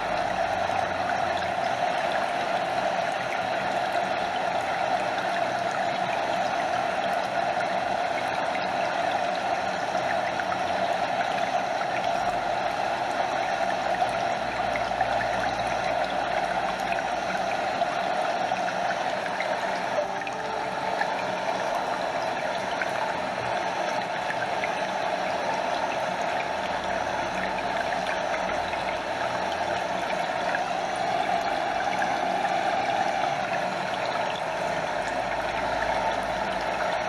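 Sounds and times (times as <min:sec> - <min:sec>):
small waterfall rushing: 0:00.0 - 0:37.0
stream water trickling: 0:00.0 - 0:37.0.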